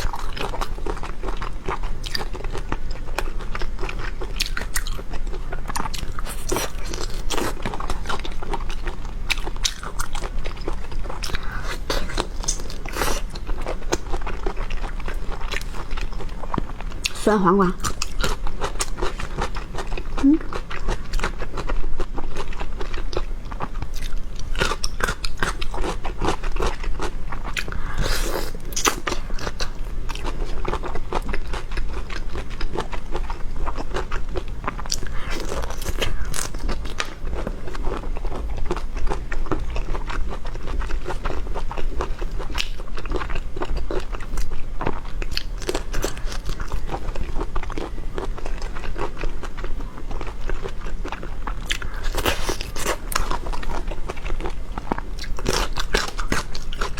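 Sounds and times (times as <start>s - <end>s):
chewing crunchy food: 0.0s - 56.9s
steady low hum: 0.0s - 56.9s.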